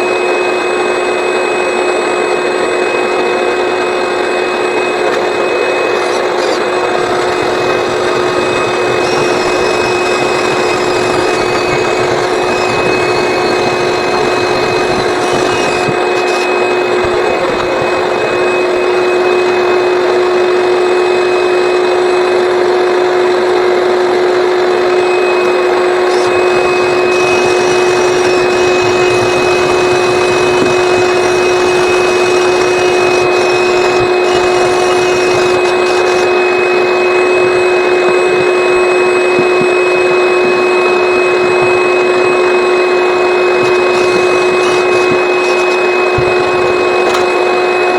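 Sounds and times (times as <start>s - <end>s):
vacuum whining: 0.0s - 47.9s.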